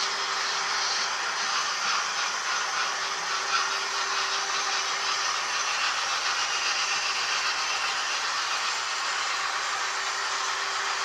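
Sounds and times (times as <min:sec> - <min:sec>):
faint motor hum: 0:00.0 - 0:11.0
model train rolling on track: 0:00.0 - 0:11.0.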